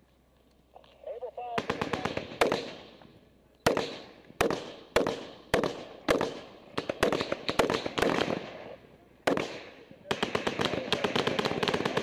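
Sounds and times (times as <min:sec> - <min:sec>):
rifle shots with echo: 0:01.5 - 0:03.0, 0:03.6 - 0:12.0.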